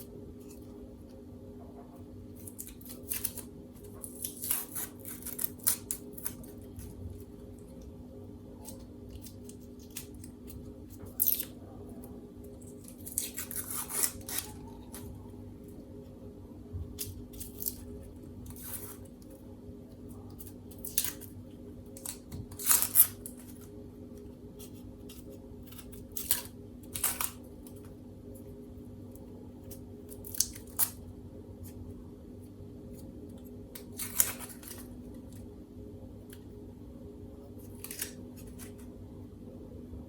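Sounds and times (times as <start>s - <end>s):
low appliance hum: 0.0s - 40.0s.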